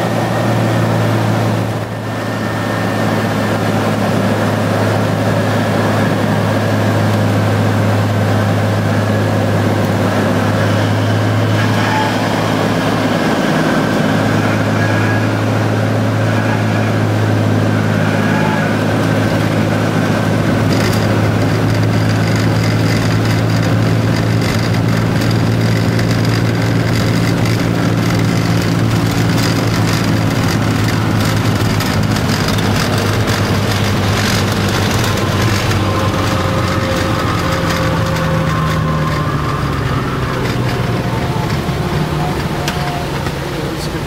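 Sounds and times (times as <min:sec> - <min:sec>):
floatplane engine and propeller: 0:00.0 - 0:44.0.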